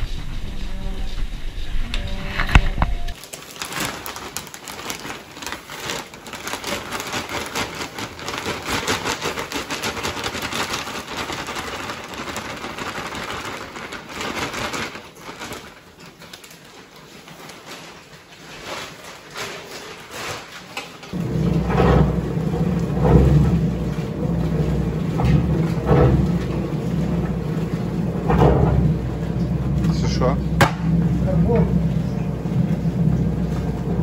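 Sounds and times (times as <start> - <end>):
sack rustling: 2.2 - 34.0
powder pouring into metal tank: 3.2 - 34.0.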